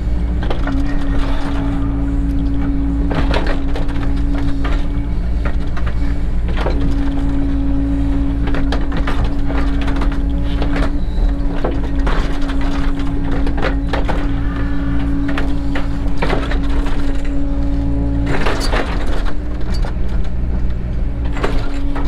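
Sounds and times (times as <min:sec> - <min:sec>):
diesel engine running: 0:00.0 - 0:22.0
hydraulic whine: 0:00.0 - 0:22.0.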